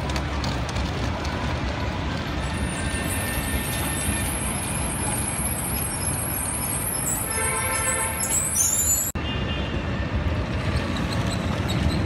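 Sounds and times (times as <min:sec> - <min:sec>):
tram wheels rumbling on rails: 0:00.0 - 0:09.2, 0:09.9 - 0:12.0.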